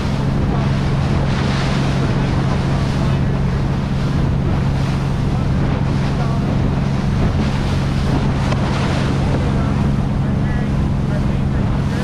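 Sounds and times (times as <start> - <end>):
boat engine droning: 0.0 - 12.0
water washing past hull: 0.0 - 12.0
wind on microphone: 0.0 - 12.0.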